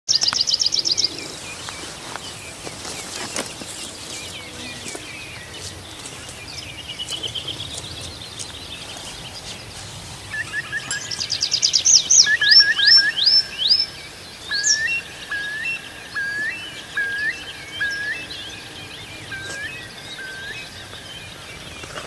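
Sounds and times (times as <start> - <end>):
songbirds singing: 0.1 - 22.0.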